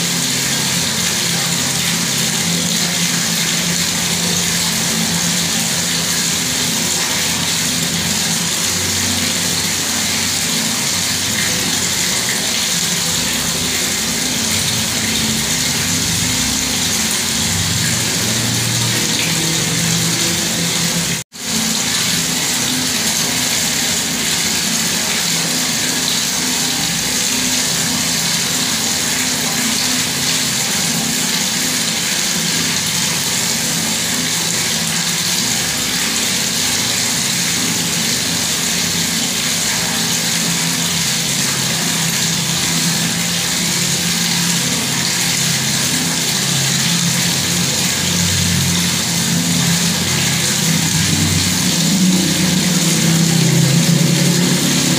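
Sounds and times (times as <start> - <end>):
water tap running: 0.0 - 54.9.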